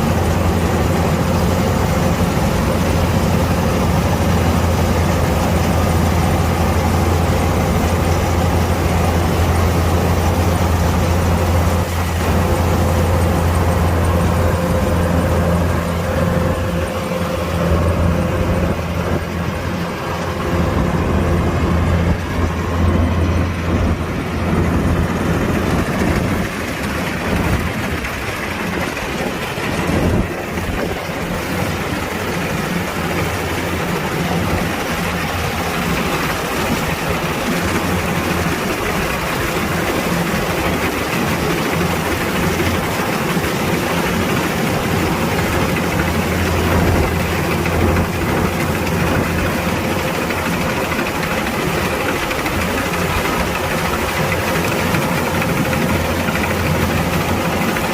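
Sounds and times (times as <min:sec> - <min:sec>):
combine harvester diesel engine: 0:00.0 - 0:57.9.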